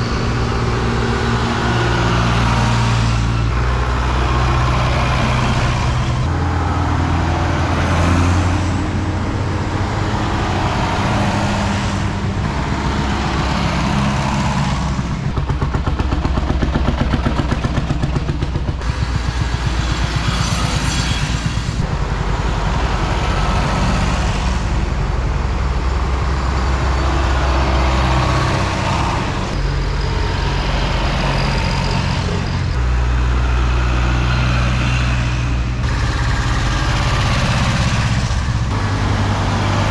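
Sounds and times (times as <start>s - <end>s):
tractor diesel engines passing: 0.0s - 39.9s.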